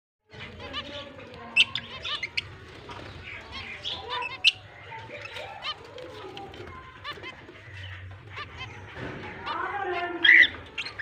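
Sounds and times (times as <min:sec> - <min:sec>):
sharp bird calls: 0:00.3 - 0:11.0
zebra finches calling: 0:00.3 - 0:11.0.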